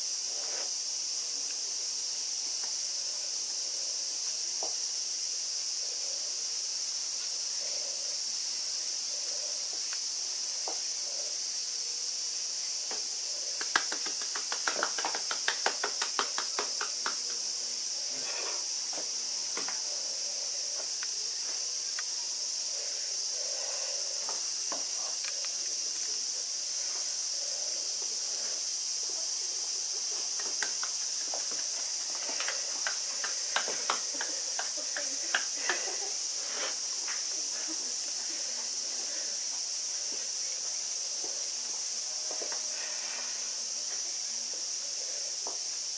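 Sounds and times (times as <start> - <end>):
steady high-pitched hiss: 0.0 - 45.9.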